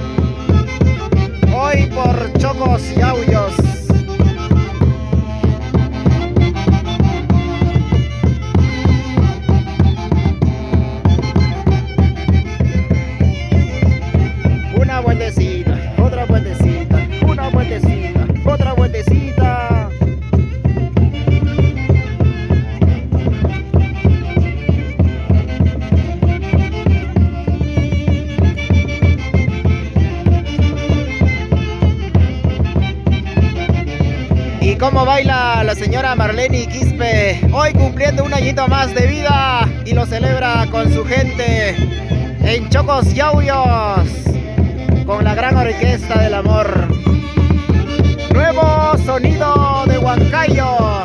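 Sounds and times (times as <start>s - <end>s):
folk orchestra melody: 0.0s - 51.0s
steady drum beat: 0.0s - 51.0s.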